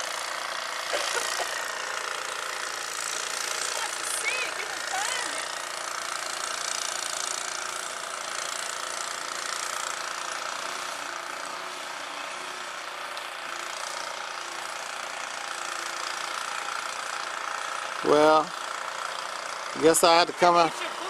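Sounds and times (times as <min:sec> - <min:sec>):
snow blower engine running: 0:00.0 - 0:21.0.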